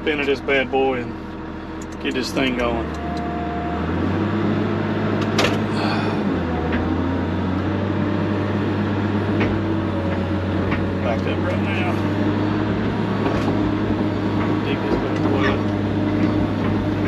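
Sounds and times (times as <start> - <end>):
excavator diesel engine revving: 0.0 - 17.0.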